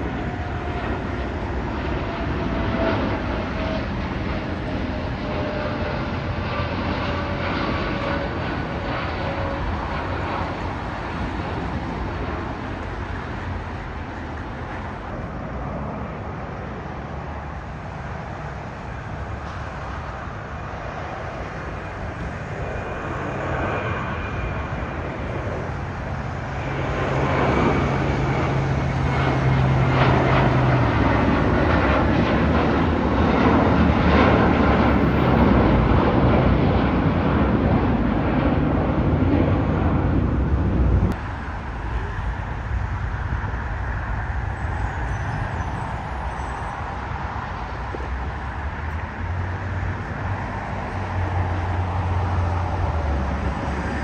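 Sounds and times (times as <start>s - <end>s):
jet airliner taking off: 0.0s - 54.0s
jet engine drone taxiing: 0.0s - 54.0s
jet engine whine: 0.0s - 54.0s.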